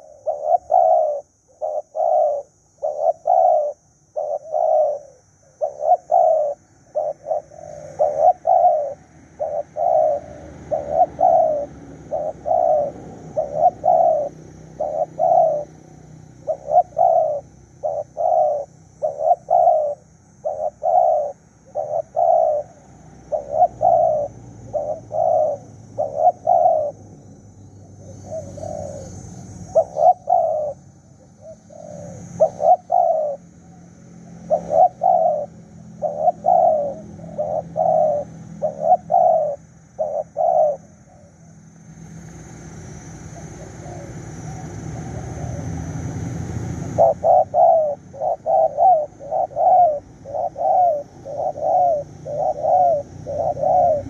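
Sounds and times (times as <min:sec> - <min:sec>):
dove cooing: 0:00.0 - 0:41.8, 0:42.4 - 0:54.0.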